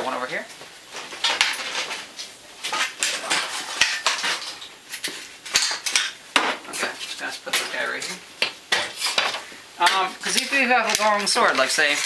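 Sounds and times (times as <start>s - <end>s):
hard objects clattering: 0.9s - 12.0s.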